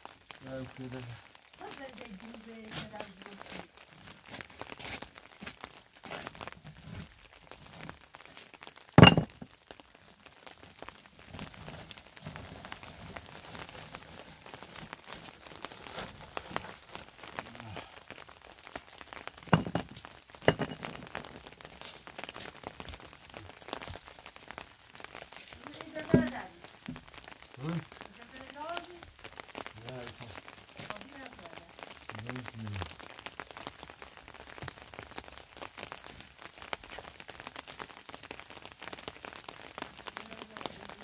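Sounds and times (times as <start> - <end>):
plastic tarp rustling: 0.1 - 41.0.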